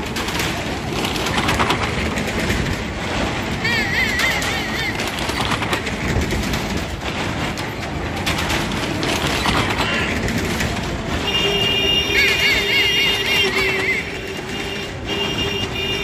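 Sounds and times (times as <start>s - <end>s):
car engines: 0.0s - 16.0s
tyres rumbling over planks: 0.0s - 16.0s.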